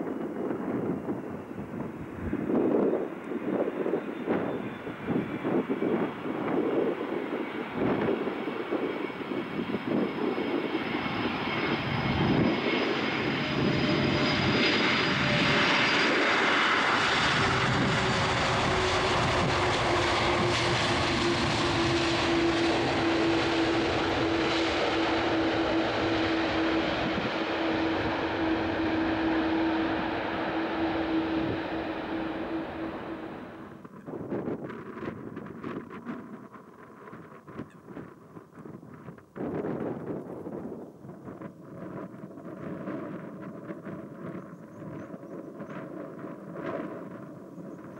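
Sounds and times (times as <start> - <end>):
jet airliner passing by: 0.0 - 47.9.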